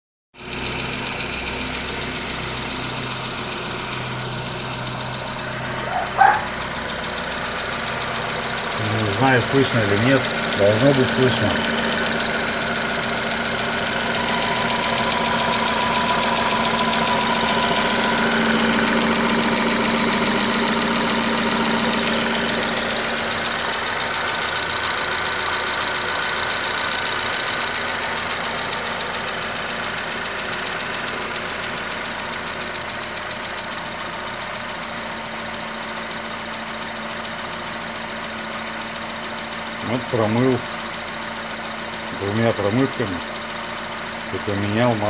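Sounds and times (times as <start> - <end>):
car engine knocking: 0.4 - 45.0.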